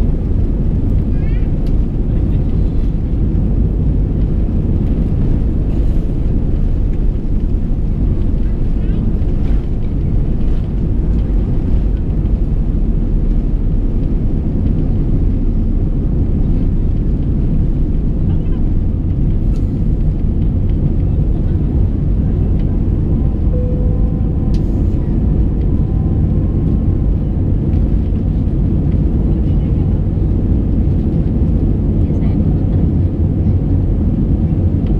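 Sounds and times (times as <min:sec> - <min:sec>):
jet engines roaring in cabin: 0:00.0 - 0:34.9.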